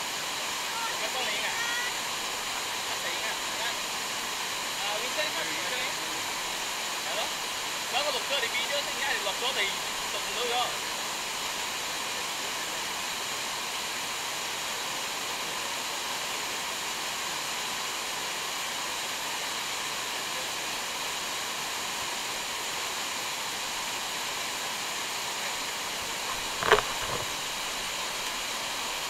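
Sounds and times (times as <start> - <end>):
waterfall pouring over rocks: 0.0 - 29.0.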